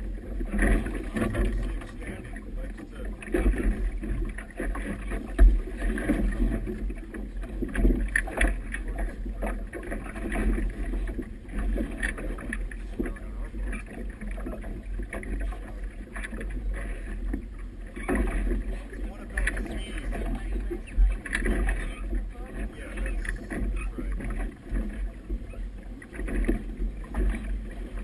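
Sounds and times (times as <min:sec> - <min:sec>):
water slapping against boat hull: 0:00.0 - 0:28.0.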